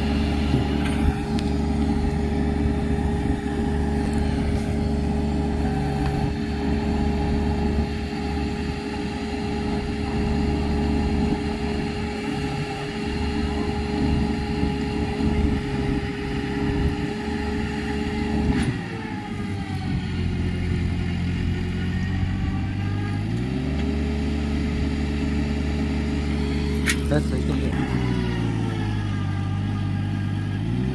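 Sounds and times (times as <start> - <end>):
tractor diesel engine under load: 0.0 - 30.9.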